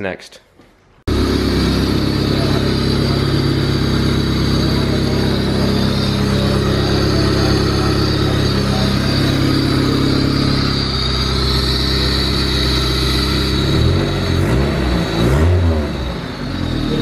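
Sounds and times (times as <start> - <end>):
car engine idling: 1.1 - 17.0.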